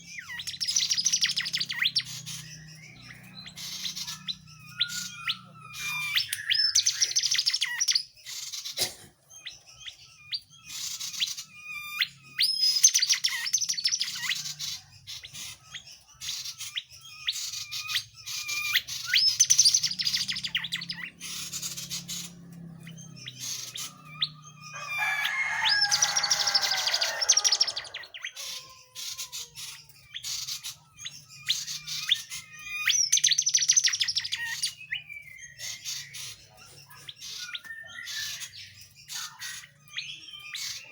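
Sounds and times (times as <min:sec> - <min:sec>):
songbird chirping and whistling: 0:00.0 - 0:08.7, 0:09.3 - 0:40.9.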